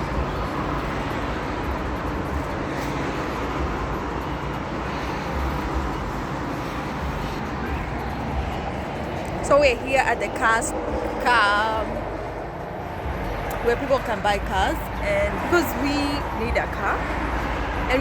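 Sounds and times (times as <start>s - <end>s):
car road noise: 0.0s - 18.0s.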